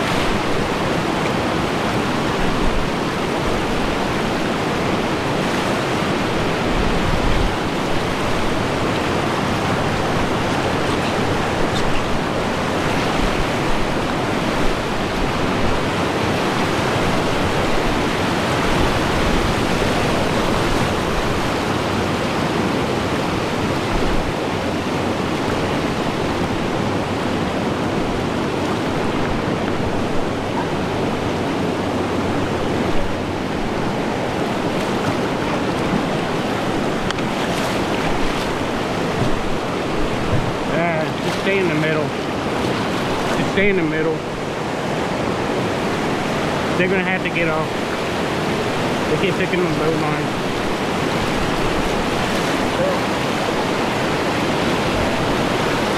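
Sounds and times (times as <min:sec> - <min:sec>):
river rapids rushing: 0:00.0 - 0:55.9.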